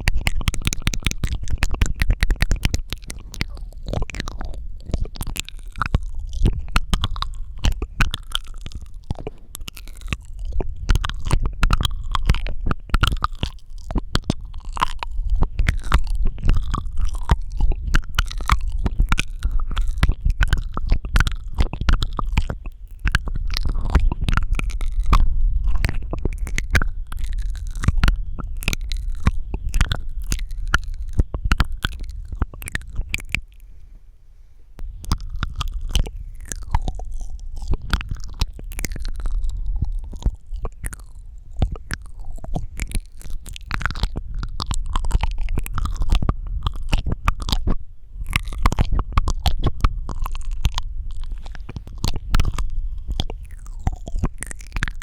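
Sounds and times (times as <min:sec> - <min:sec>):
wet mouth clicks and smacks: 0:00.0 - 0:33.7, 0:34.8 - 0:55.0.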